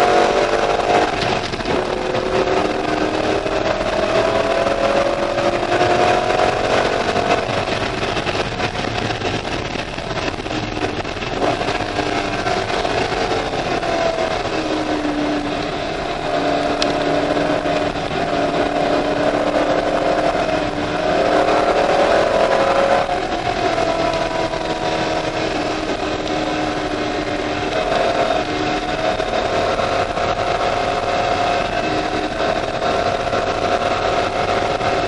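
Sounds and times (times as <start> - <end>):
car engine from inside cabin: 0.0 - 35.0.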